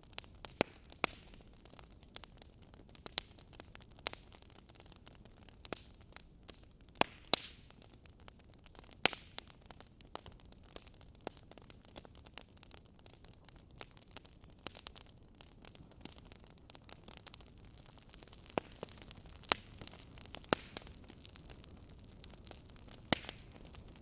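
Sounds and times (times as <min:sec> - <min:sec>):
faint steady hiss: 0:00.0 - 0:24.0
wood fire crackling: 0:00.0 - 0:24.0.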